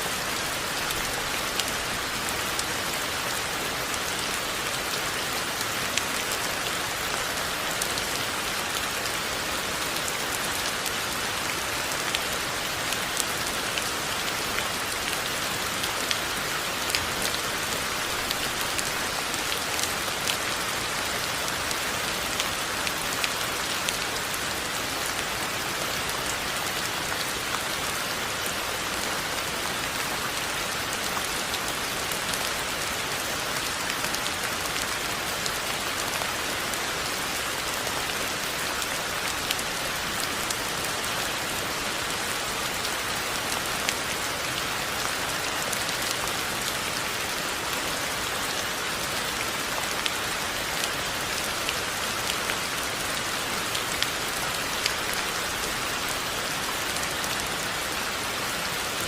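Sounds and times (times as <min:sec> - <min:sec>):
raindrops hitting surfaces: 0:00.0 - 0:59.0
steady rain falling: 0:00.0 - 0:59.0.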